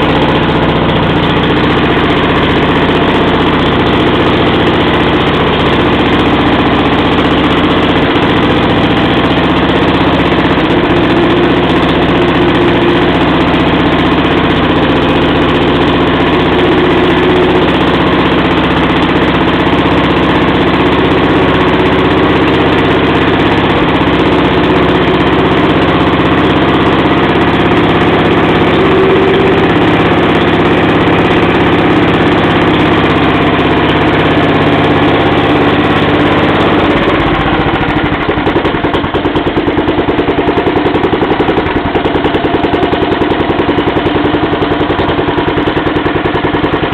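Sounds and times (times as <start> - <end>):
motor pump engine running: 0.0 - 46.9.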